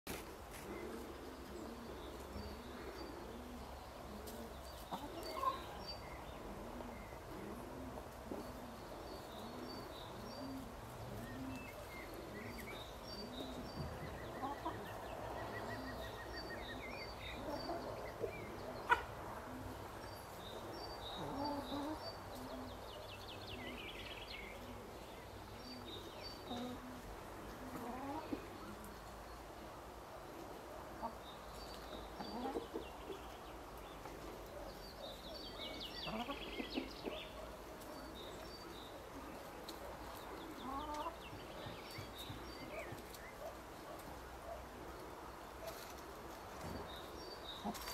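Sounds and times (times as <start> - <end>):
songbirds chirping and trilling: 0.1 - 47.9.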